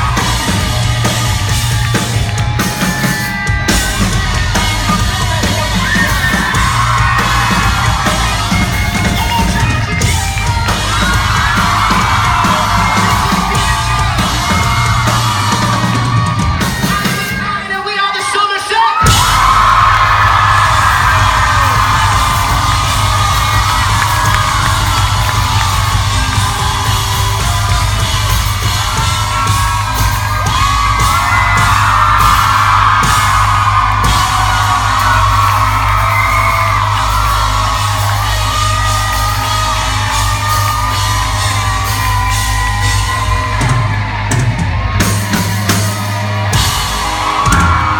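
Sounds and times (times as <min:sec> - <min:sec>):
heavy bass: 0:00.0 - 0:17.7, 0:19.0 - 0:47.9
pop-rock band playing: 0:00.0 - 0:47.9
people singing and whooping: 0:03.4 - 0:47.9.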